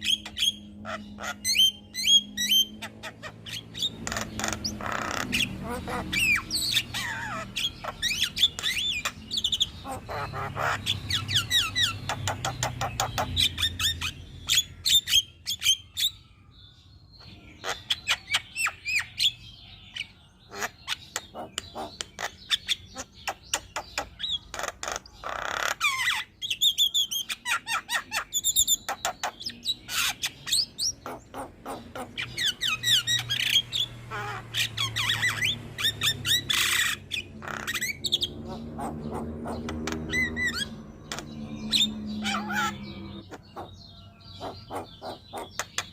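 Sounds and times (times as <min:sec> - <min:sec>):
bird singing varied song: 0:00.0 - 0:45.9.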